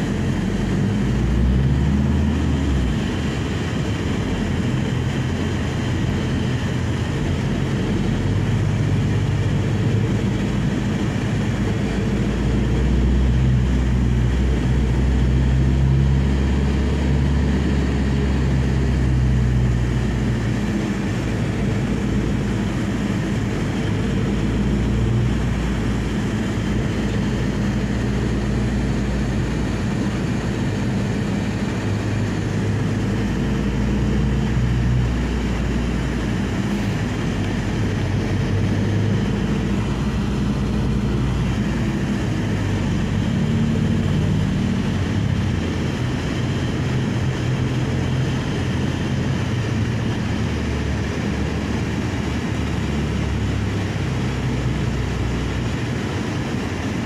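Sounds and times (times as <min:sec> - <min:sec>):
van engine and road noise: 0:00.0 - 0:57.0.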